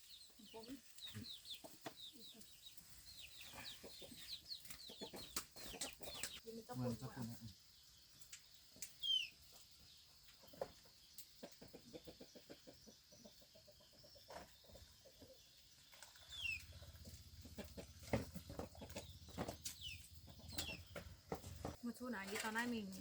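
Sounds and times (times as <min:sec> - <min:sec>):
chickens calling faintly: 0:00.0 - 0:23.0.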